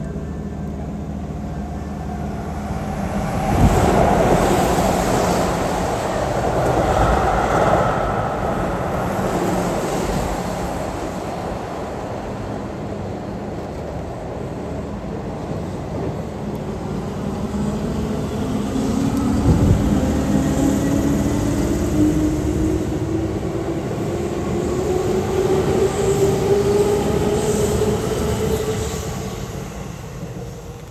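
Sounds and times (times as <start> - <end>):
electric train passing: 0.1 - 30.9.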